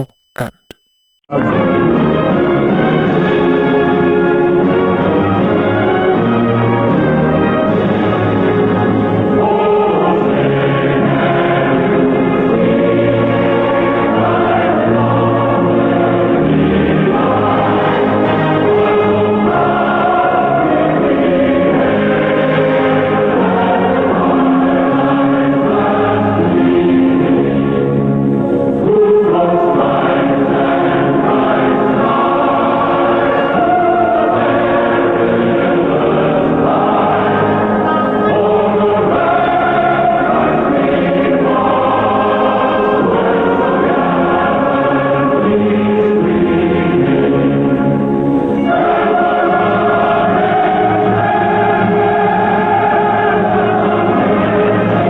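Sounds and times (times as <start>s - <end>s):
choir singing sustained chords: 1.3s - 55.0s.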